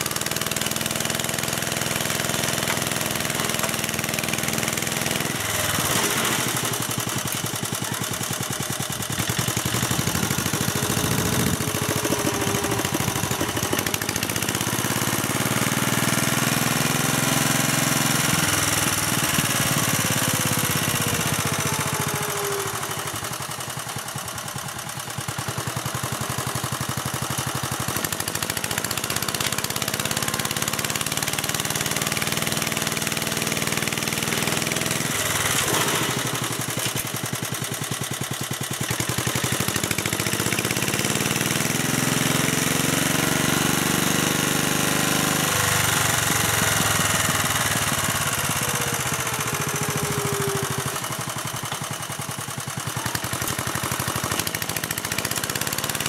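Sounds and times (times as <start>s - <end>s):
rotary tiller working soil: 0.0s - 56.0s
walking tractor engine running: 0.0s - 56.0s.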